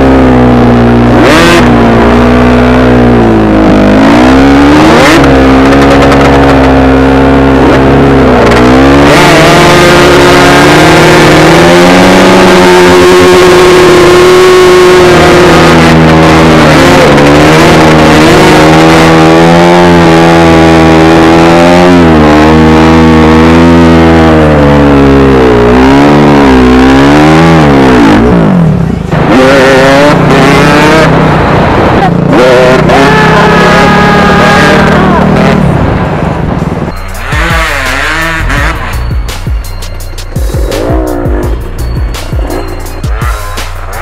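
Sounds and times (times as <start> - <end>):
dirt bike engines revving: 0.0 - 44.0
low engine note: 0.0 - 44.0.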